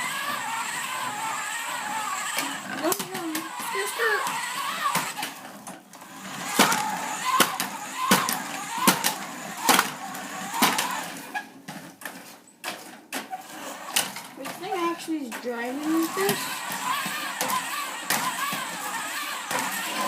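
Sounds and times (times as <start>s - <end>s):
toy car motor: 0.0s - 20.0s.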